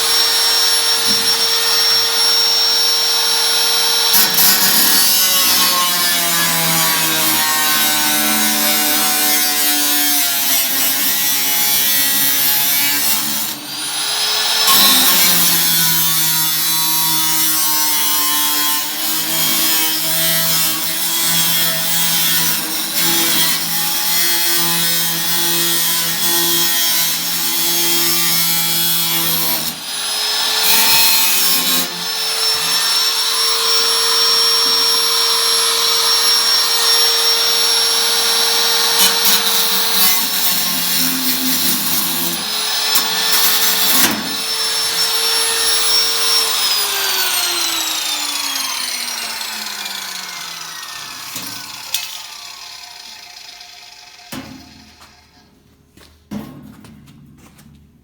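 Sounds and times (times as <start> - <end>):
power tool cutting sheet steel: 0.0 - 55.5.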